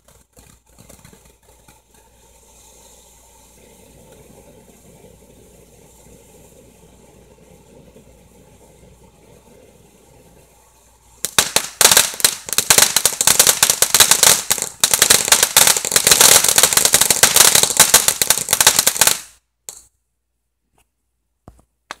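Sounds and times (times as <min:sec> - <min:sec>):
firework popping and crackling: 0:00.0 - 0:19.4.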